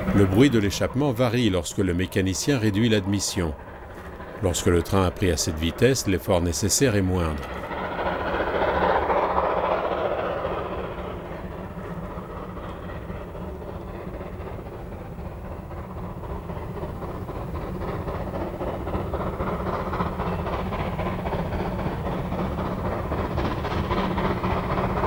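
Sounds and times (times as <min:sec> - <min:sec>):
steam locomotive exhaust beats: 0:00.0 - 0:25.0.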